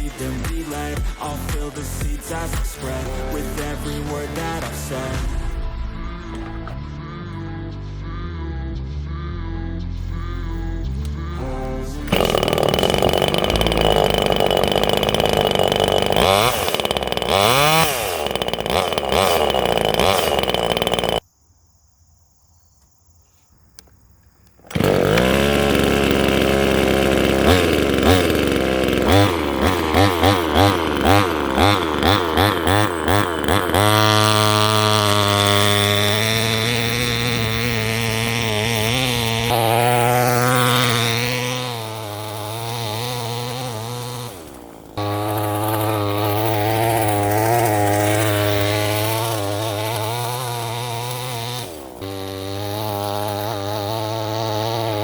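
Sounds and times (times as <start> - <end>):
two-stroke engine revving: 0.0 - 5.7, 10.0 - 21.2, 24.5 - 55.0.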